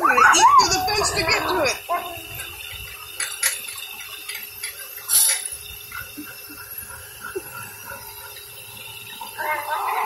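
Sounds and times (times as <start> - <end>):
pressure washer spraying: 1.3 - 10.0.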